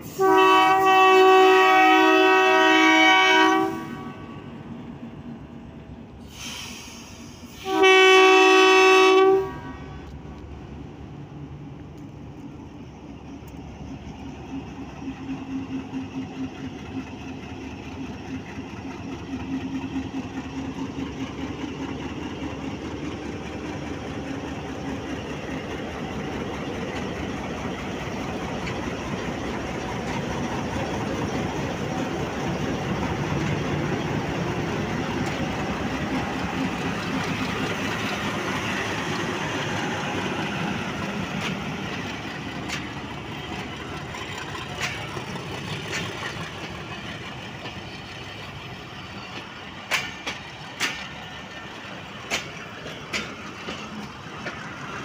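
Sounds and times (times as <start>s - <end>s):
diesel locomotive engine humming: 0.0s - 55.0s
train wheels rolling: 10.0s - 55.0s.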